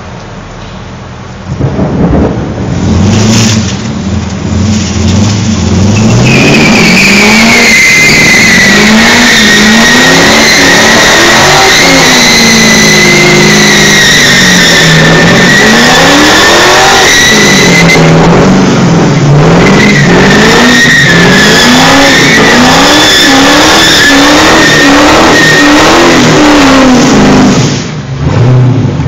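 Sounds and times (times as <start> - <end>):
car engine revving: 1.4 - 29.0.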